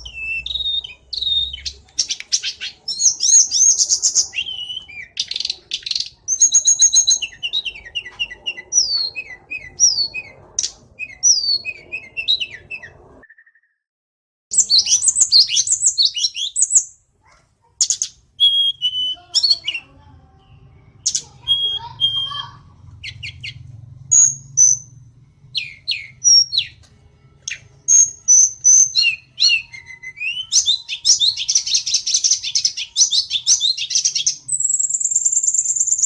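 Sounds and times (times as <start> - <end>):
songbird singing: 0.0 - 13.8, 14.5 - 36.0.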